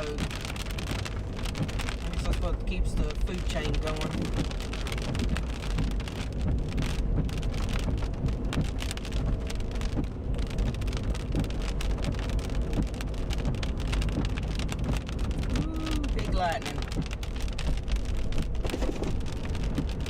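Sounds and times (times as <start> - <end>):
car road rumble: 0.0 - 20.0
heavy rain on a car: 0.0 - 20.0.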